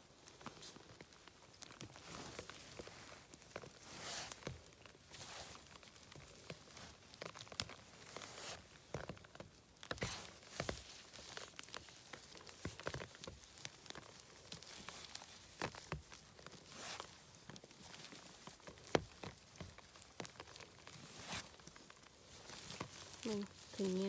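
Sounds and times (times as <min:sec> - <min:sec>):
rustling and crackling of moss: 0:00.0 - 0:24.0.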